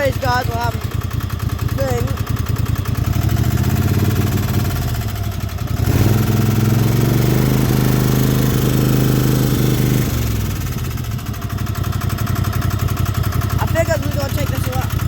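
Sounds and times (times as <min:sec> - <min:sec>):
lawnmower engine running: 0:00.0 - 0:15.0.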